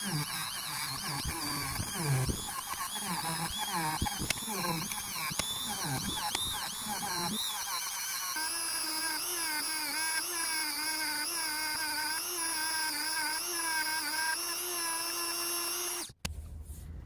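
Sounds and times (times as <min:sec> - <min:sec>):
rotary tool wire brush whining: 0:00.0 - 0:16.2.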